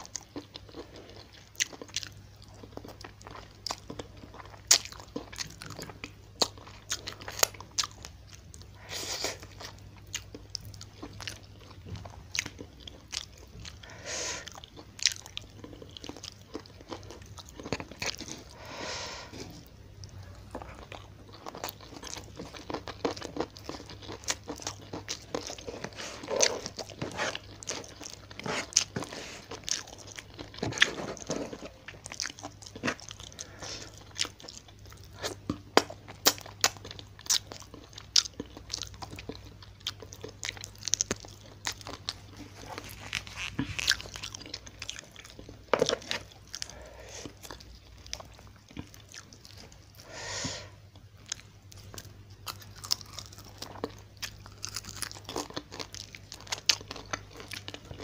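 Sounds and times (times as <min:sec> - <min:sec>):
chewing crunchy food: 0:00.0 - 0:58.0.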